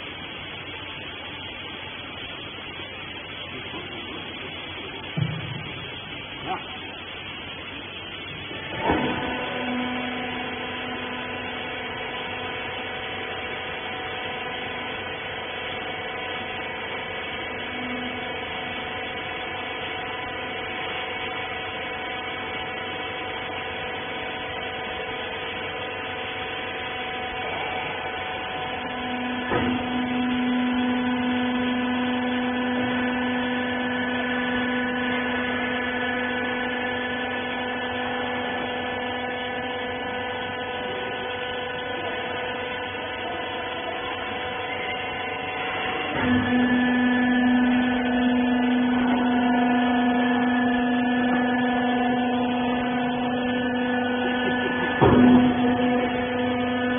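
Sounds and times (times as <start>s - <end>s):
motor and pump whining hum: 0.0s - 56.9s.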